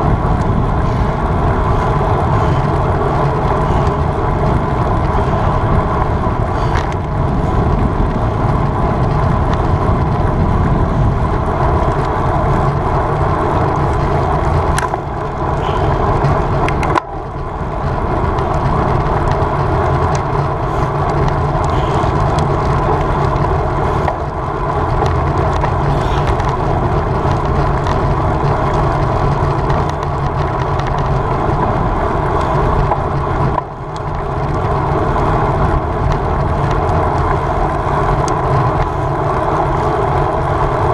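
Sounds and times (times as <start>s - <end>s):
road noise from bike: 0.0s - 40.9s
wind rush: 0.0s - 40.9s.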